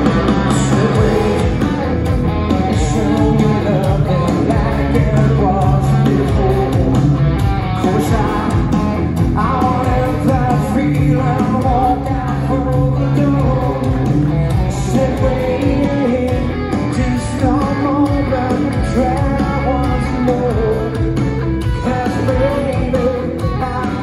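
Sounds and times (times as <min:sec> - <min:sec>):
electric guitars: 0:00.0 - 0:24.0
man singing: 0:00.0 - 0:24.0.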